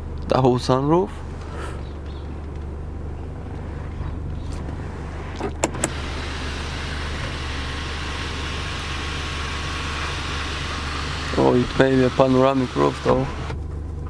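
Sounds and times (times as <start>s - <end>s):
steady low hum: 0.0s - 14.0s
sunroof motor whirring: 1.2s - 13.7s.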